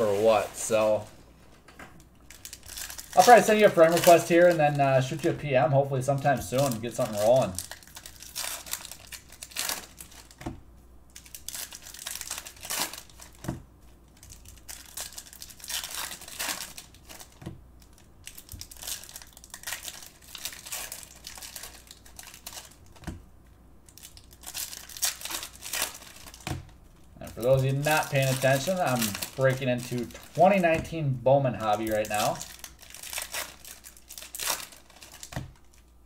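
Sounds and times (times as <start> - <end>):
foil wrappers crinkling and tearing: 0.0 - 1.2, 2.2 - 10.5, 11.1 - 23.2, 23.8 - 36.0.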